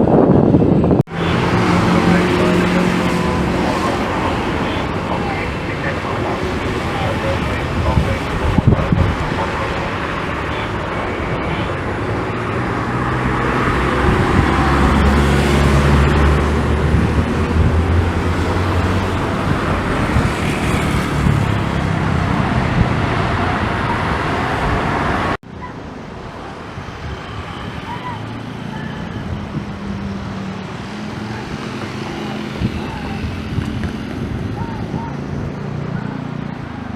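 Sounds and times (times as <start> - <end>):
background engine and traffic noise: 0.0 - 36.9
jet airliner roar: 0.0 - 36.9.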